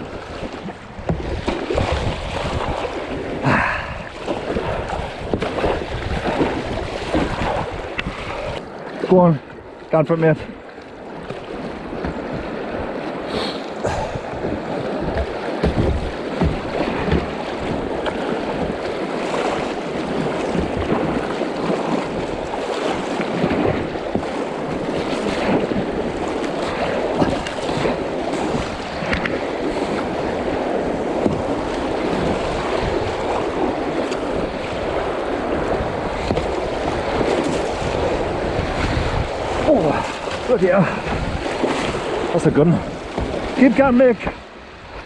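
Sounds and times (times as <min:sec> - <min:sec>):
wind buffeting microphone: 0:00.0 - 0:08.8, 0:11.0 - 0:45.0.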